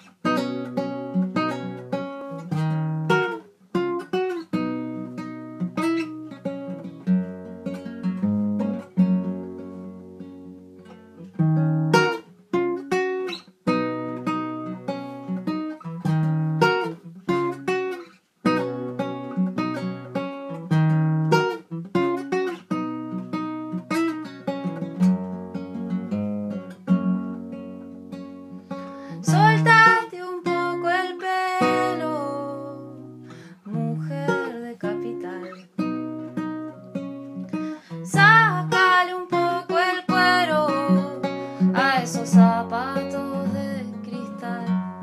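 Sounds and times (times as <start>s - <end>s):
acoustic guitar strumming: 0.0s - 45.0s.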